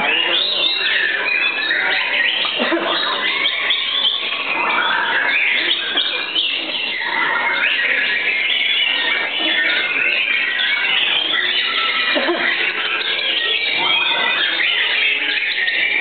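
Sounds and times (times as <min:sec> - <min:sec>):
songbirds singing whistled phrases: 0:00.0 - 0:16.0.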